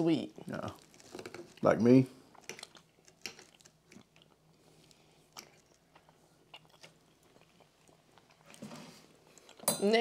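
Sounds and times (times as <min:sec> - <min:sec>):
person chewing: 0:00.4 - 0:01.6, 0:02.2 - 0:09.6.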